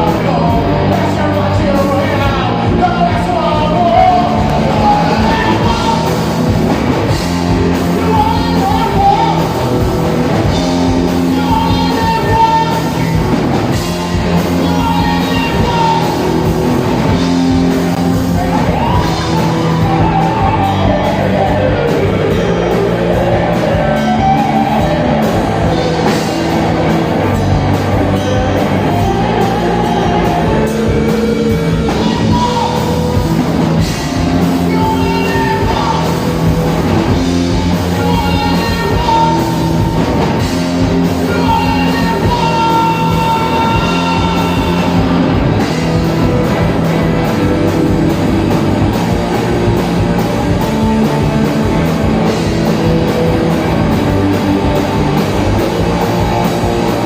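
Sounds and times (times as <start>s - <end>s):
drum kit: 0.0s - 57.0s
electric guitar: 0.0s - 57.0s
rock band playing live: 0.0s - 57.0s.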